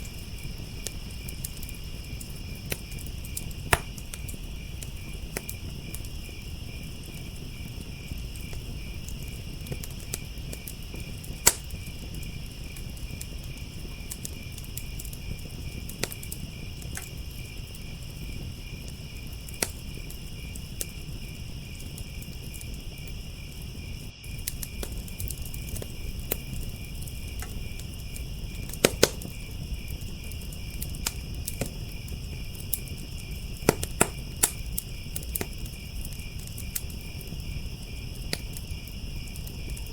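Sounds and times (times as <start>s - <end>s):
crickets trilling: 0.0s - 39.9s
wood fire crackling and popping: 0.0s - 39.9s.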